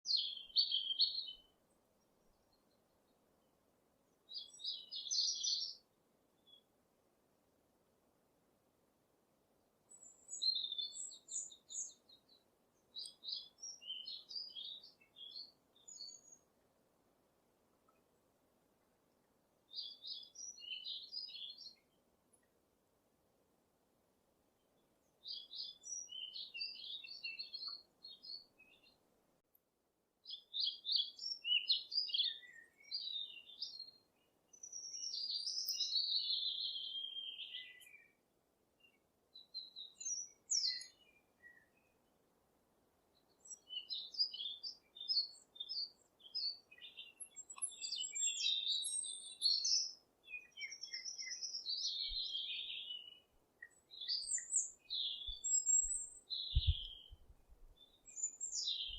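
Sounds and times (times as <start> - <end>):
songbirds singing and chattering: 0.0 - 6.7, 9.9 - 16.6, 19.7 - 22.5, 24.6 - 29.0, 30.2 - 38.2, 38.8 - 42.1, 43.1 - 58.9.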